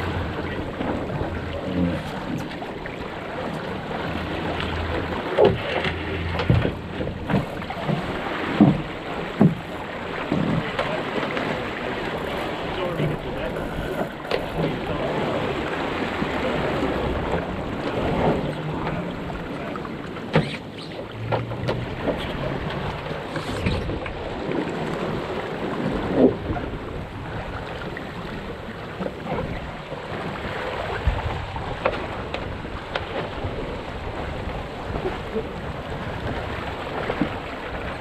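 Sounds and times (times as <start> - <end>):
wind buffeting microphone: 0.0 - 20.1, 21.2 - 38.0
boat knocks: 0.0 - 38.0
water rushing along hull: 0.0 - 38.0.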